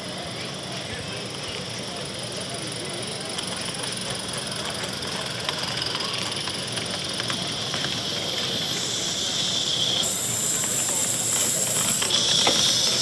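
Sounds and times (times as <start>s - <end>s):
model steam locomotive hissing: 0.0s - 13.0s.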